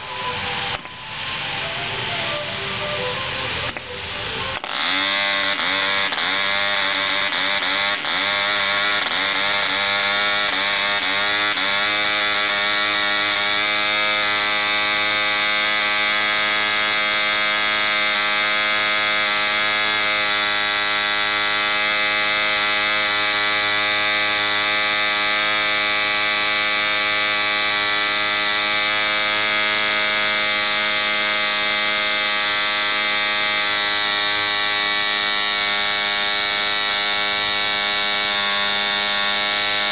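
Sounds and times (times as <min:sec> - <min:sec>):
model engine running: 0:00.0 - 0:39.9.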